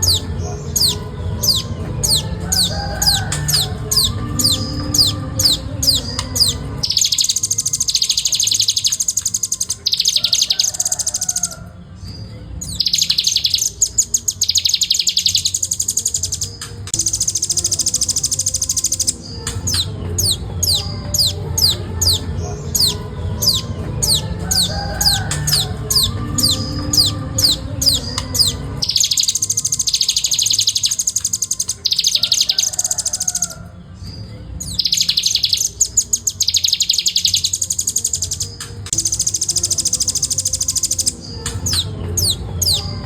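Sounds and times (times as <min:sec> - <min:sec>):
nuthatch singing high trills: 0:00.0 - 0:43.0.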